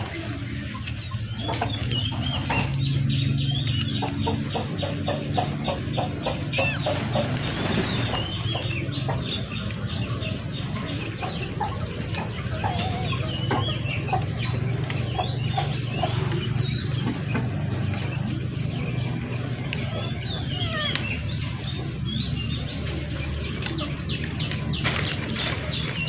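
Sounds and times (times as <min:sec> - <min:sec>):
bird chirps and clucks: 0:00.0 - 0:26.0
steady low hum: 0:00.0 - 0:26.0.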